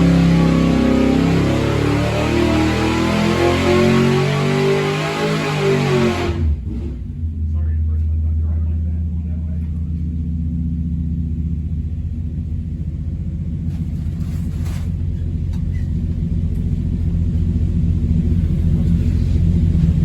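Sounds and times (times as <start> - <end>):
engine running on dyno: 0.0 - 20.0.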